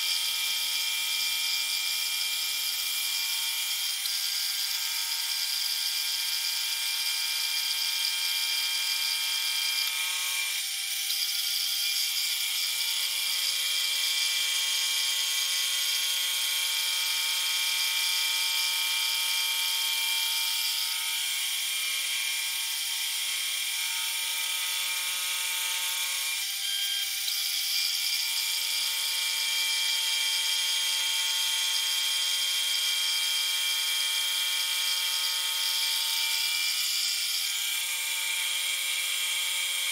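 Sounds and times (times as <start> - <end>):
grinding machine whine: 0.0 - 39.9.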